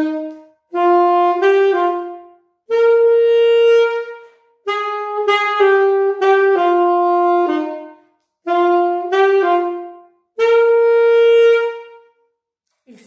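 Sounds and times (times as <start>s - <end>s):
alto saxophone playing swing: 0.0s - 12.3s.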